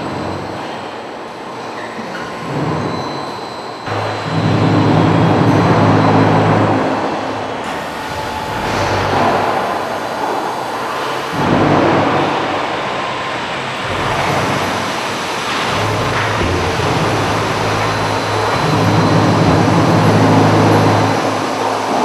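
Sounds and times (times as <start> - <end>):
low machine hum: 3.8 - 22.0
machinery running: 3.8 - 22.0.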